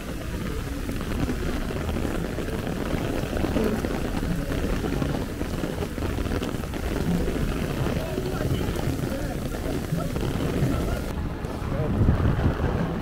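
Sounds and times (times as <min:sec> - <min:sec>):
heavy rain on an umbrella: 0:00.0 - 0:13.0
rain splashing on pavement: 0:00.0 - 0:13.0.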